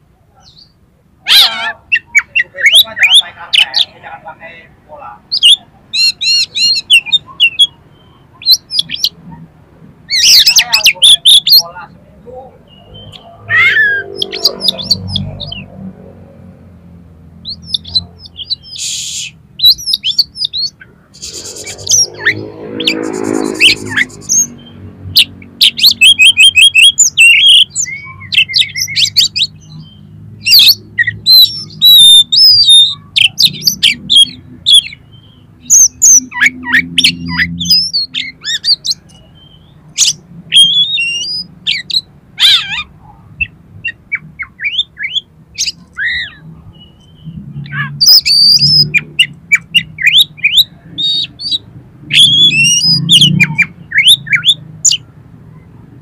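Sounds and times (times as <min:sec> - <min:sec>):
bird singing: 0:00.4 - 0:04.0, 0:05.2 - 0:09.3, 0:10.1 - 0:15.9, 0:17.3 - 0:55.8.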